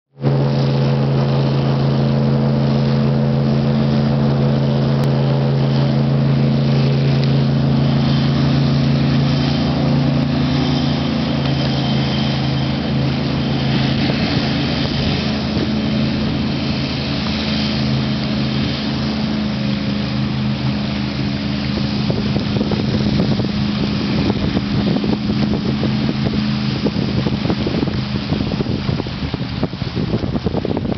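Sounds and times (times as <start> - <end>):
airboat engine and propeller drone: 0.1 - 30.9
wind rumbling on microphone: 0.1 - 30.9.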